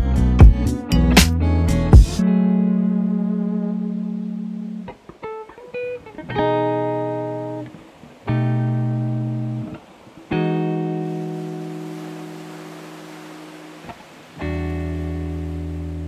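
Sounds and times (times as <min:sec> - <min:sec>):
plucked guitar chords: 0:00.0 - 0:12.7, 0:13.3 - 0:16.0.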